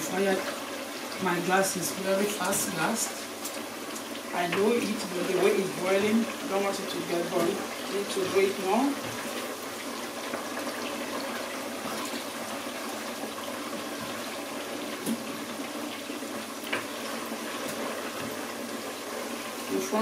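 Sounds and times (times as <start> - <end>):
stew boiling and bubbling: 0.0 - 20.0.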